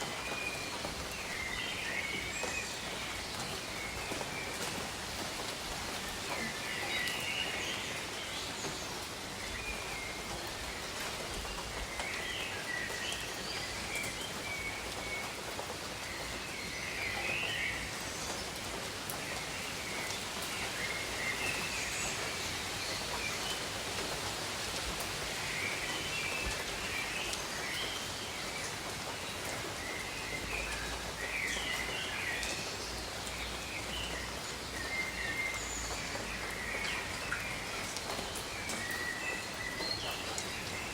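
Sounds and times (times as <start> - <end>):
rain on foliage: 0.0 - 40.9.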